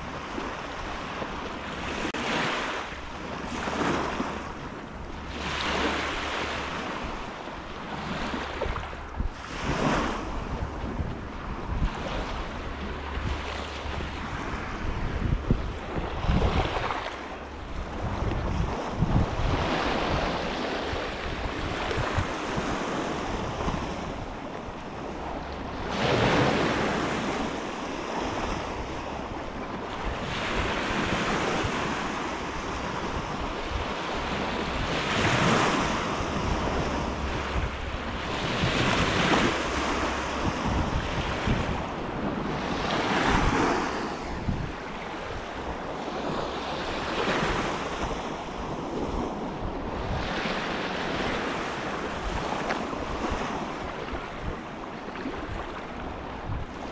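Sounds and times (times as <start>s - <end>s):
lake waves washing onto shore: 0.0s - 56.9s
wind rumble on microphone: 0.0s - 56.9s.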